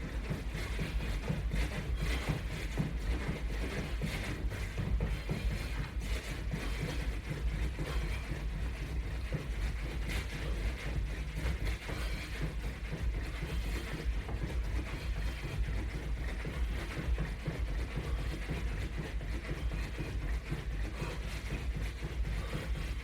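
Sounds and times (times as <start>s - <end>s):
feet thudding while jogging: 0.0s - 23.0s
low steady hum: 0.0s - 23.0s.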